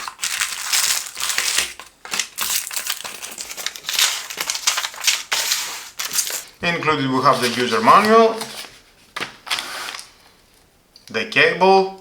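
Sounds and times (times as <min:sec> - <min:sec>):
packaging crinkling and rustling: 0:00.0 - 0:10.3.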